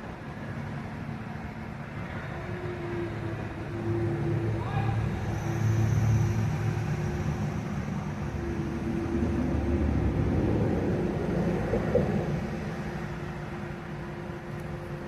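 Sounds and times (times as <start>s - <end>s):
large engine rumbling: 0.0s - 15.0s.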